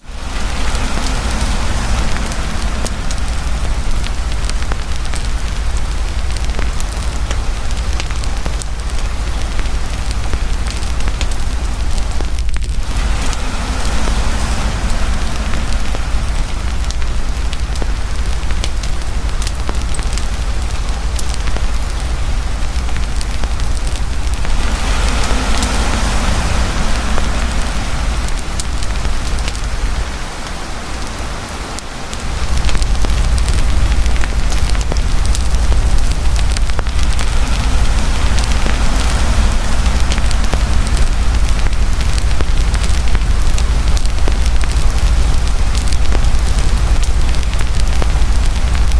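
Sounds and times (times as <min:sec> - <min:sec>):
campfire crackling and popping: 0:00.0 - 0:48.9
heavy rain pouring: 0:00.0 - 0:48.9.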